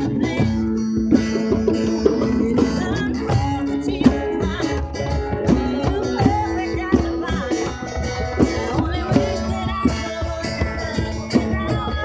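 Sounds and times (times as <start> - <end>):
woman singing: 0.0 - 0.8, 1.4 - 12.0
strummed acoustic guitar: 0.0 - 12.0.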